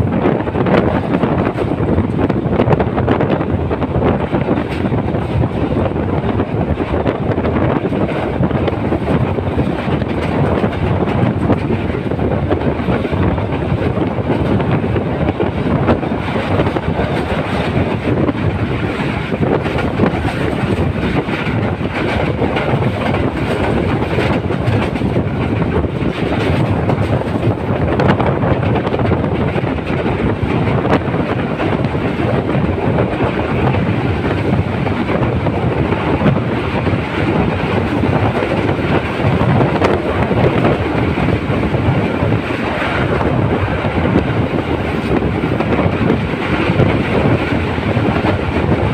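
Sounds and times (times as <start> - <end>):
train carriage rumble and rattle: 0.0 - 48.9.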